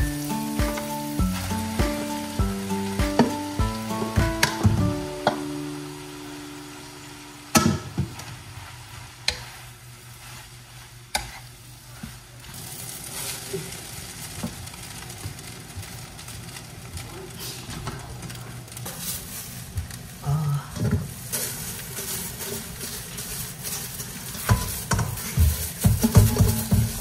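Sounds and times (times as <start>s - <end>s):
rice sizzling in a pan: 0.0s - 27.0s.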